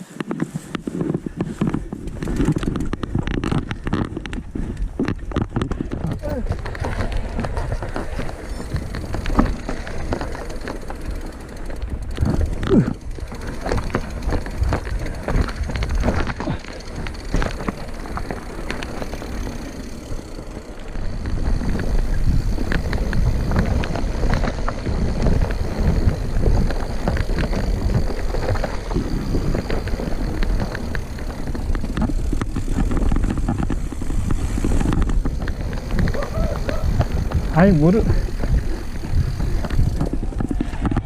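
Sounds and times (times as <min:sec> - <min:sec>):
bike tyres rumbling on rough trail: 0:00.0 - 0:41.0
bike knocks and rattles: 0:00.2 - 0:41.0.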